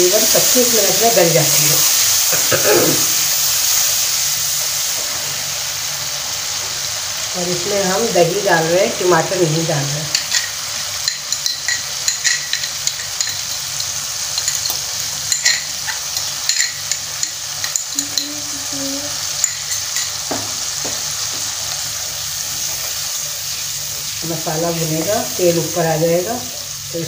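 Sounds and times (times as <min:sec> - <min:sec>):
masala sizzling in hot oil: 0:00.0 - 0:27.0.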